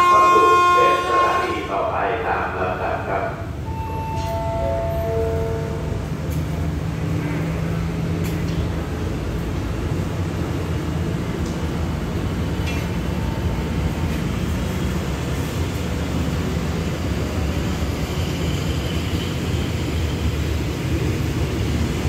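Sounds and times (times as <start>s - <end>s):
diesel train engine drone: 0.0s - 22.0s.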